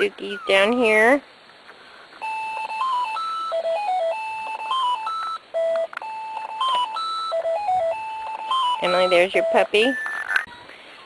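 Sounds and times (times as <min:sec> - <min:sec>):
electronic device beeping a tune: 0:00.0 - 0:01.0, 0:02.2 - 0:11.0.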